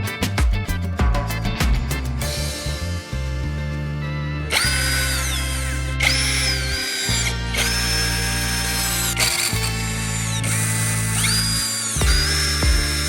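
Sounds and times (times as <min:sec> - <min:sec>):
electric motor whining: 0:02.3 - 0:13.0.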